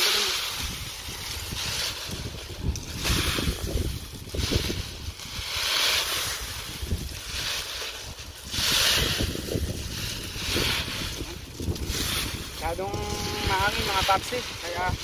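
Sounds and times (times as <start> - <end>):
gusty wind buffeting microphone: 0.4 - 15.0.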